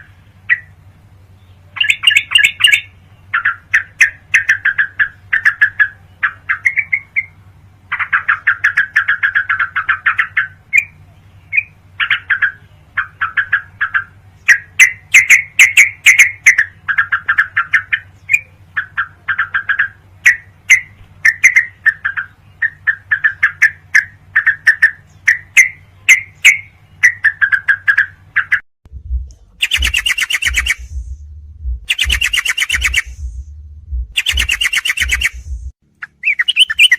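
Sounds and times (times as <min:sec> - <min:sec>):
harsh noisy bird call: 0:00.0 - 0:28.6, 0:29.6 - 0:31.0, 0:31.9 - 0:33.3, 0:34.2 - 0:36.9
bird chattering song: 0:00.0 - 0:36.9
low electrical hum: 0:00.0 - 0:36.9.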